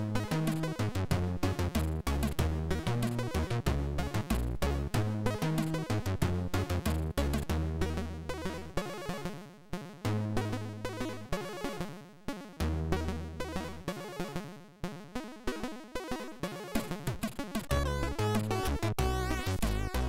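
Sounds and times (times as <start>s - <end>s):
chiptune music: 0.0s - 9.4s, 10.0s - 20.0s.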